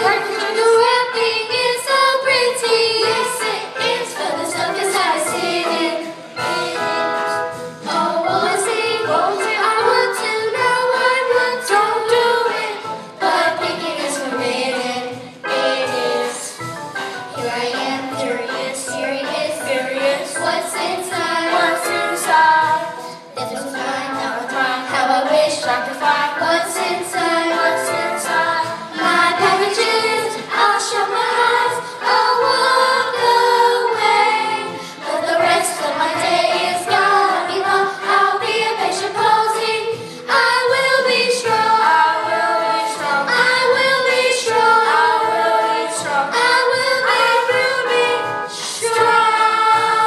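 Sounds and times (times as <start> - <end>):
children's choir singing: 0.0 - 50.0.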